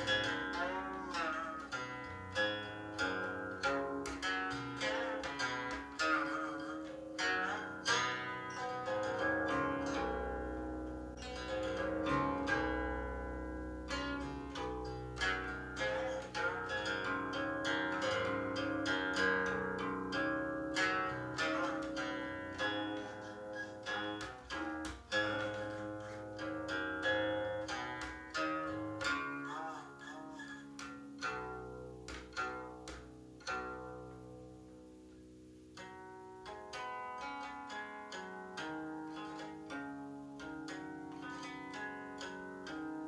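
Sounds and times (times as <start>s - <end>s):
guqin plucked notes: 0.0s - 43.0s.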